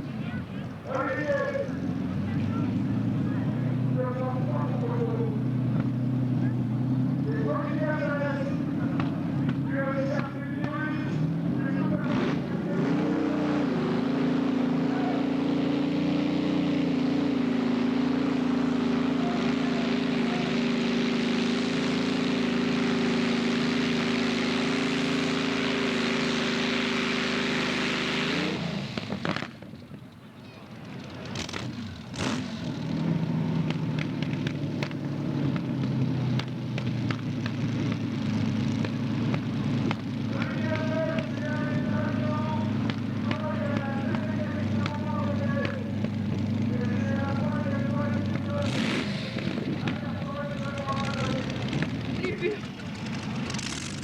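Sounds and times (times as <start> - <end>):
low rough engine running: 0.0 - 54.0
tractor engine running flat out: 0.0 - 54.0.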